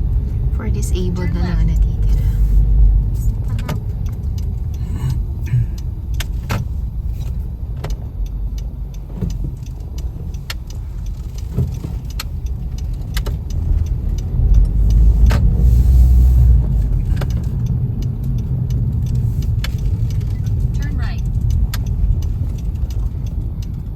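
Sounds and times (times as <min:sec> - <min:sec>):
low rumble of engine and tyres: 0:00.0 - 0:23.9.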